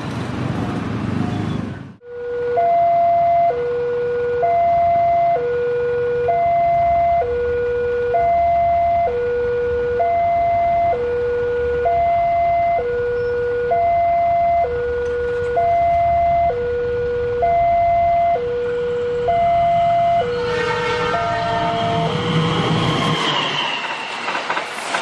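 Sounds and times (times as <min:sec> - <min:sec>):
traffic noise: 0:00.0 - 0:25.0
level crossing two-tone alarm: 0:02.0 - 0:22.8.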